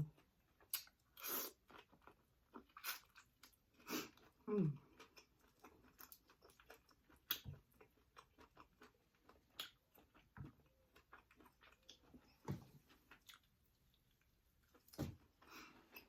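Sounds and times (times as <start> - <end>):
chewing and mouth smacks: 0.0 - 16.0.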